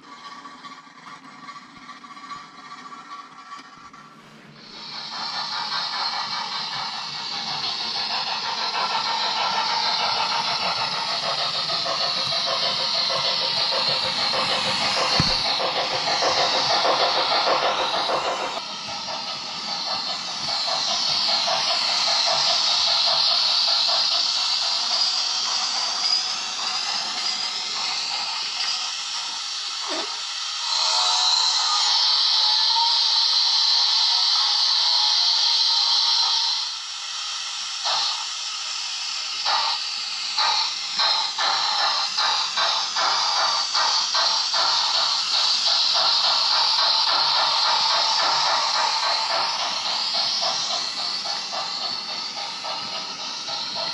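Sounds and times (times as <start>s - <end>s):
model train wheels clicking: 0.0s - 53.9s
steam hissing: 0.0s - 53.9s
steam engine exhaust chuffs: 4.6s - 53.9s.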